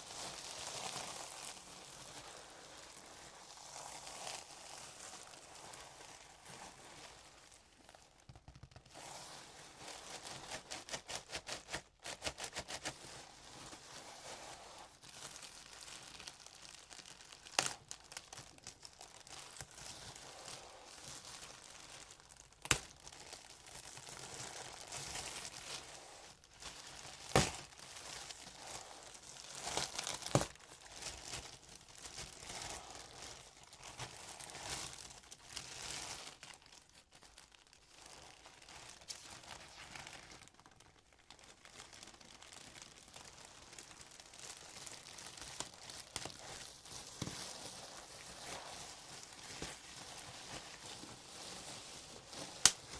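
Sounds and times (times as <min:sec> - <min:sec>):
packaging crinkling and tearing: 0:00.0 - 0:52.9.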